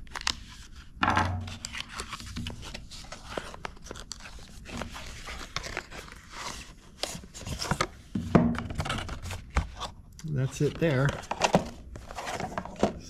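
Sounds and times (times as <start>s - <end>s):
cardboard rustling and scraping: 0.2s - 13.0s.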